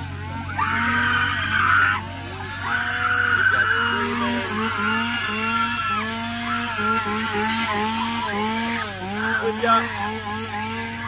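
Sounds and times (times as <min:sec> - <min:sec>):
chainsaw engine revving: 0:00.0 - 0:11.0.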